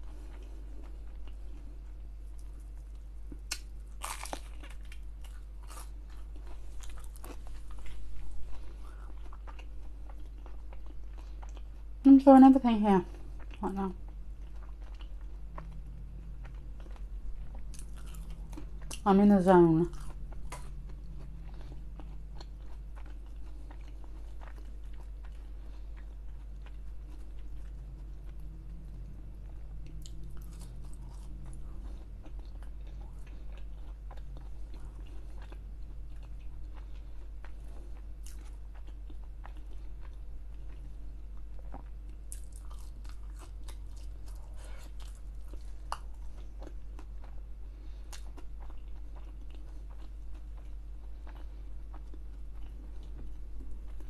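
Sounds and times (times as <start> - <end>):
wet chewing with crunches: 0.0 - 12.0, 12.9 - 54.0
steady low hum: 0.0 - 54.0.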